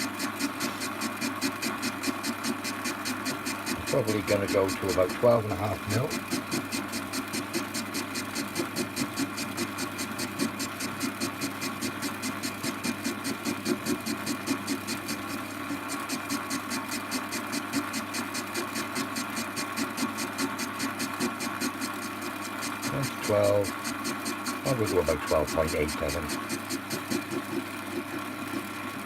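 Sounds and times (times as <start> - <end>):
fast regular cutting tick: 0.0 - 28.7
lathe motor humming: 0.0 - 29.0.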